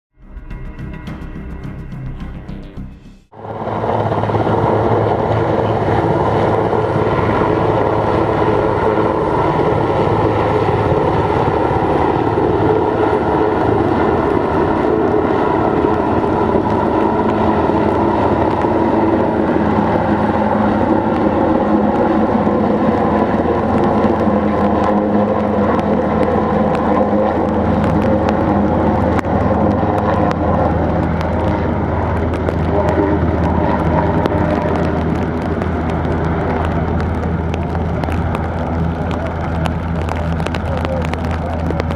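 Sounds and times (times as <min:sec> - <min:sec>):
helicopter turbine and rotor: 0:00.3 - 0:41.9.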